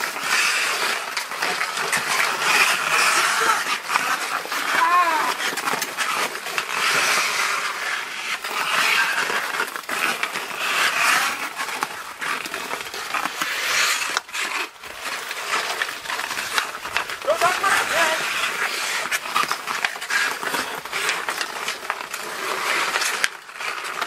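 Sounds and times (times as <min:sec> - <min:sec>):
hockey sticks and puck clacking: 0:00.0 - 0:24.0
ice skates scraping on ice: 0:00.0 - 0:24.0.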